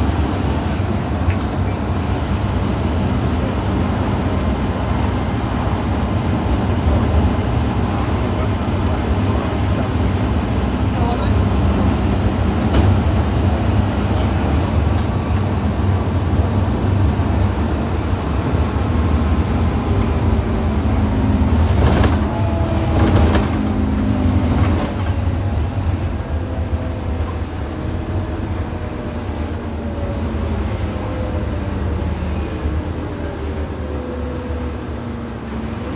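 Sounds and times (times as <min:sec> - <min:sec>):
bus diesel engine droning: 0:00.0 - 0:35.9.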